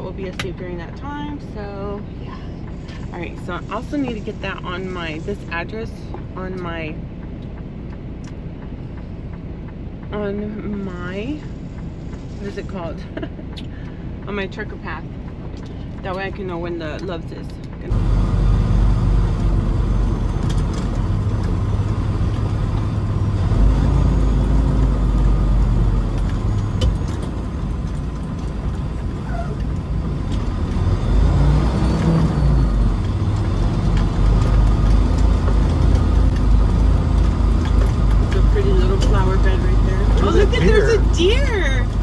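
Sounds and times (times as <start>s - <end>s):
diesel truck engine rumbling: 0.0s - 42.0s.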